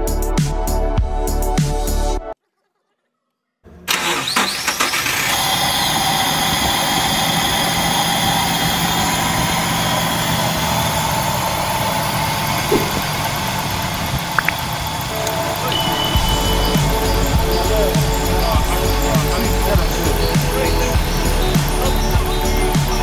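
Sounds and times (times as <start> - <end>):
car engine starting and idling: 3.7 - 23.0.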